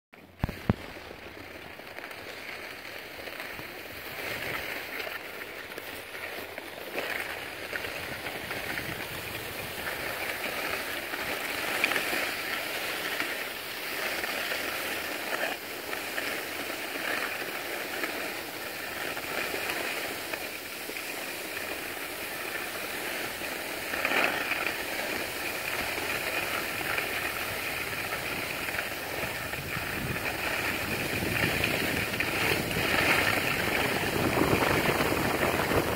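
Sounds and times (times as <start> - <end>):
skis scraping over snow: 0.2 - 35.9.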